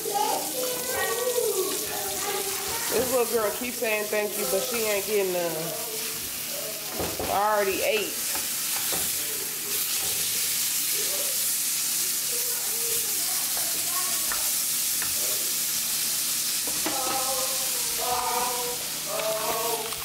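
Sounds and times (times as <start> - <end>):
patties sizzling in a skillet: 0.0 - 20.0.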